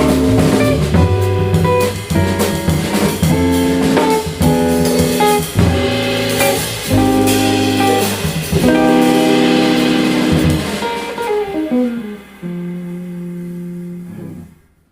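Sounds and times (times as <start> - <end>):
double bass: 0.0 - 10.7, 11.6 - 14.6
jazz guitar: 0.0 - 14.9.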